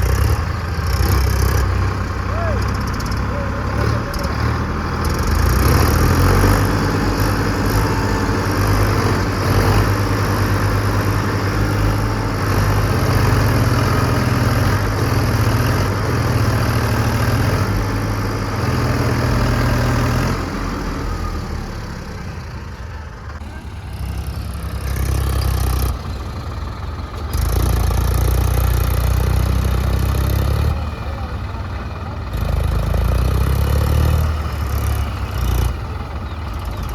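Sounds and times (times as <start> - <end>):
tractor diesel engines running hard: 0.0 - 36.9.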